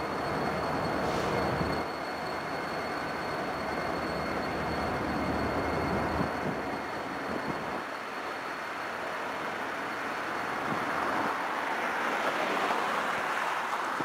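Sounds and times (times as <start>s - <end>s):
faint high whine: 0.0s - 11.4s
diesel locomotive running: 0.0s - 14.0s.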